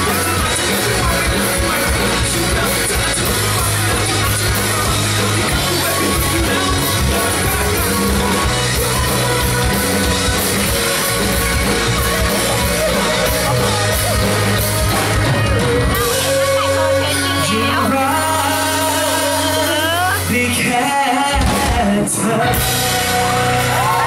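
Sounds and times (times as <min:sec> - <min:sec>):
person singing lead: 0:00.0 - 0:24.0
pop-rock band playing: 0:00.0 - 0:24.0.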